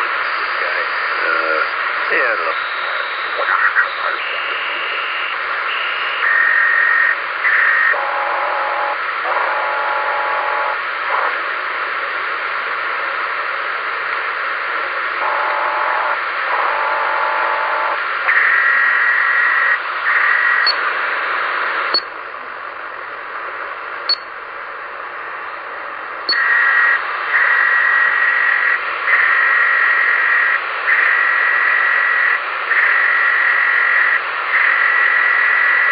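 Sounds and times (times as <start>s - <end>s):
stacked radio tones: 0.0s - 22.2s, 25.3s - 35.9s
radio receiver hiss: 0.0s - 35.9s.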